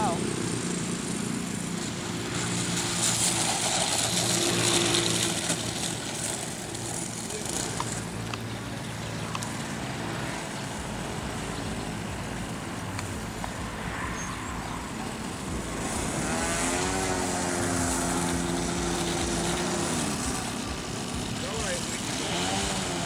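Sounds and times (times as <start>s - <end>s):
model plane engine running: 0.0s - 14.2s, 14.8s - 23.0s.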